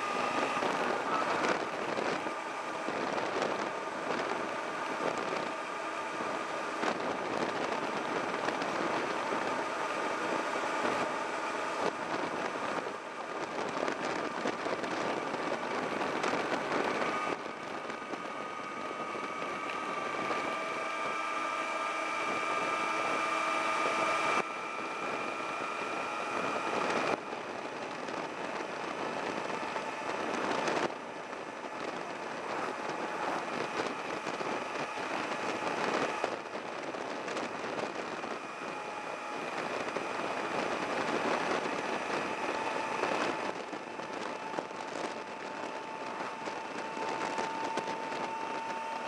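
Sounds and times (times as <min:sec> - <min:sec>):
faint motorcycle engine: 0:00.0 - 0:49.0
wind rush over microphone: 0:00.0 - 0:49.0.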